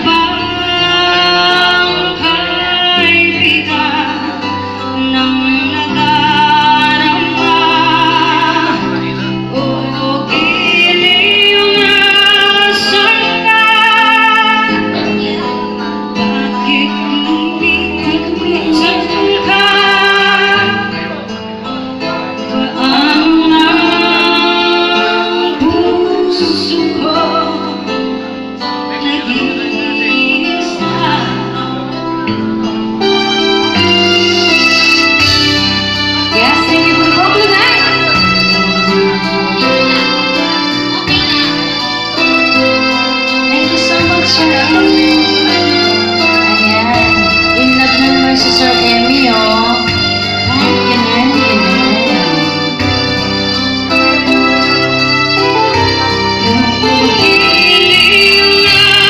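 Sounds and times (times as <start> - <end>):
instrumental accompaniment: 0.0 - 59.0
woman singing into microphone: 0.0 - 59.0.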